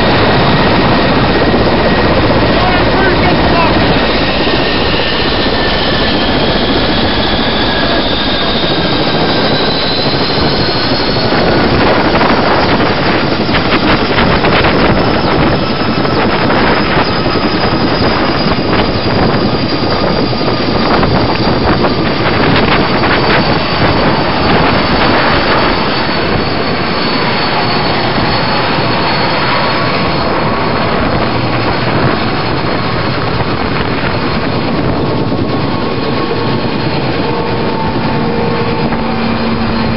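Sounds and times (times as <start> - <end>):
helicopter turbine and rotor: 0.0 - 39.9
high turbine whine: 0.0 - 39.9.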